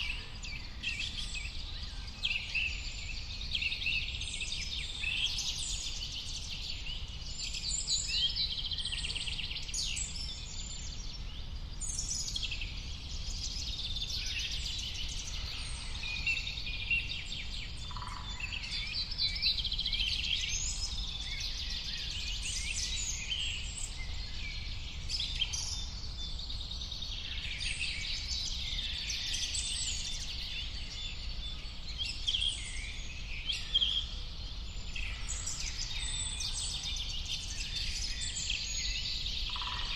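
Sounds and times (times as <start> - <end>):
chorus of birds singing: 0.0 - 39.9.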